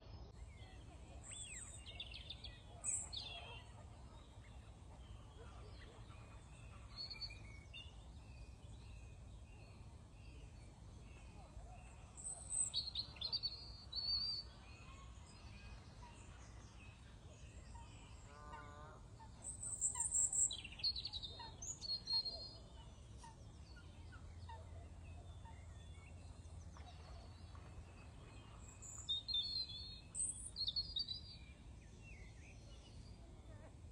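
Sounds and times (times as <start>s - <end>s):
birds calling and chirping: 0.6s - 33.9s.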